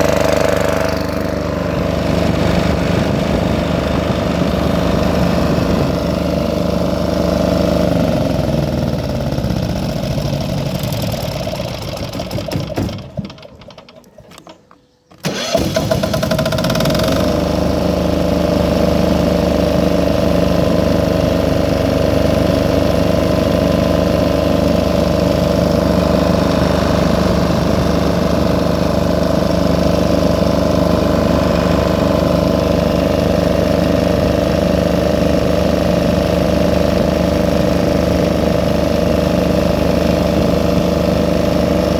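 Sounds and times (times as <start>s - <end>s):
generator engine running: 0.0s - 14.5s, 15.2s - 41.9s.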